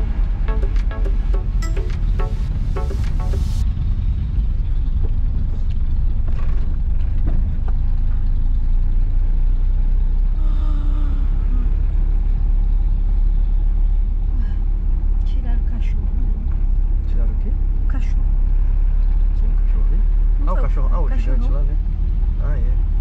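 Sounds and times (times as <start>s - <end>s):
car engine rumble: 0.0s - 23.0s
road noise: 0.0s - 23.0s.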